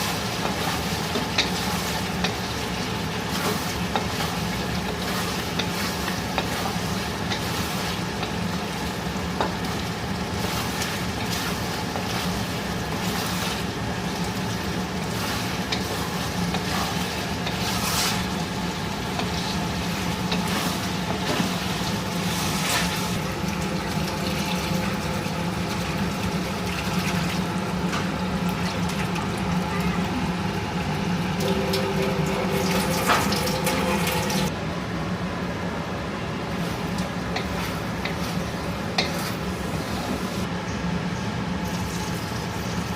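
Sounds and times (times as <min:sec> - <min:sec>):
gravy sizzling in a pan: 0:00.0 - 0:34.5.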